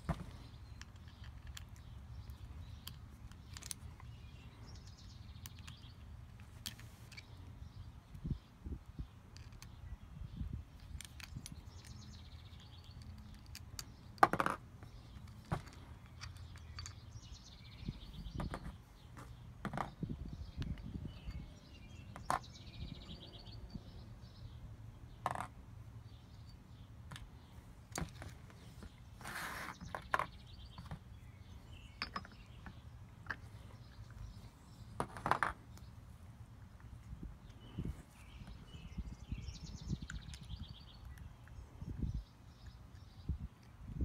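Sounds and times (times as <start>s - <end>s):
faint bird chirping: 0.0s - 14.2s, 14.8s - 44.0s.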